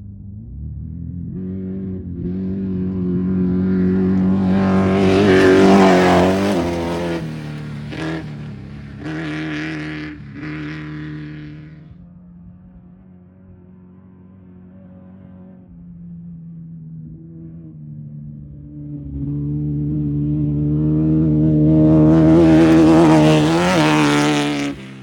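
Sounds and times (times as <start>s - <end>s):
race vehicle engine passing: 0.4s - 25.0s.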